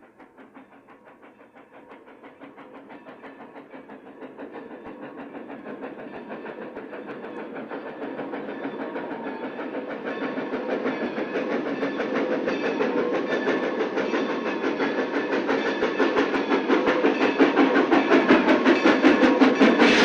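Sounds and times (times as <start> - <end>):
steam locomotive exhaust beat: 0.0 - 20.0.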